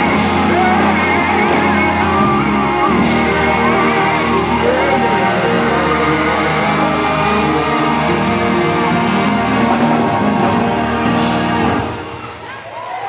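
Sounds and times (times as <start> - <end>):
live band music through speakers: 0.0 - 12.4.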